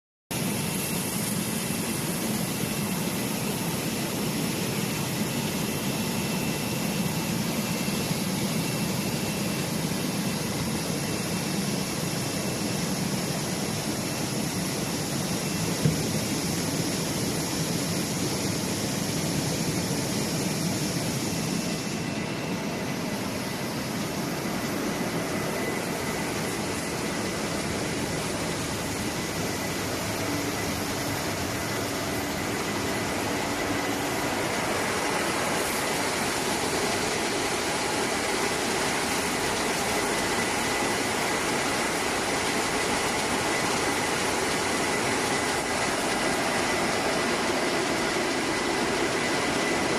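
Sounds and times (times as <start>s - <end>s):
washing machine and water noise: 0.3s - 49.9s.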